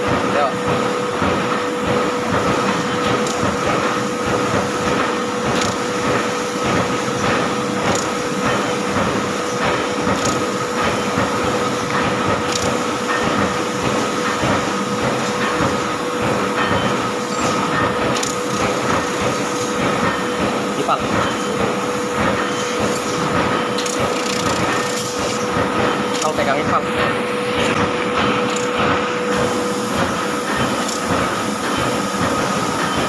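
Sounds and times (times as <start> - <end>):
laser cutter humming and whining: 0.0 - 33.0.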